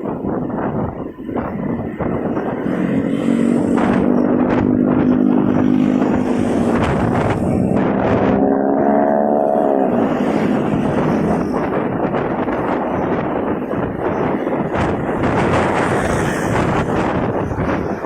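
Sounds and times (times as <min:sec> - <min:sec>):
road and wind noise: 0:00.0 - 0:18.0
motorcycle engine: 0:01.3 - 0:18.0.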